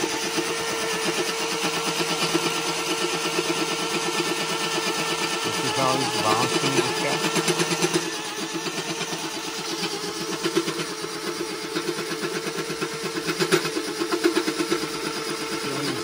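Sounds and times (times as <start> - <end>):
power drill motor running: 0.0 - 16.0.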